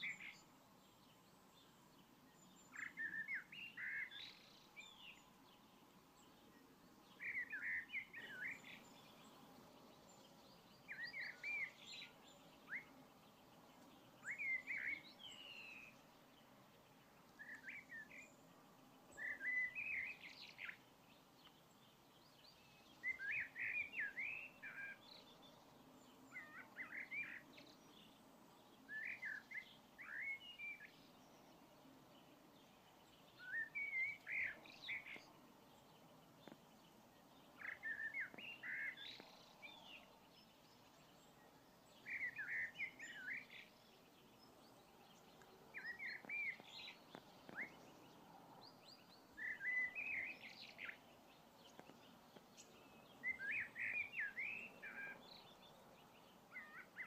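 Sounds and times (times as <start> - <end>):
faint outdoor background noise: 0.0 - 57.0
songbird singing: 0.0 - 57.0.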